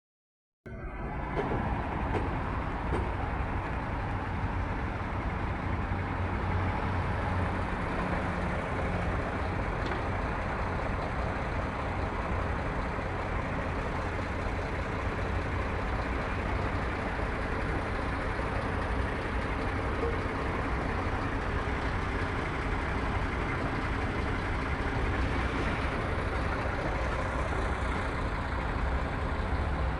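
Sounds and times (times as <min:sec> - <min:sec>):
heavy machinery engine rumble: 0:00.7 - 0:29.9
road noise: 0:00.7 - 0:29.9.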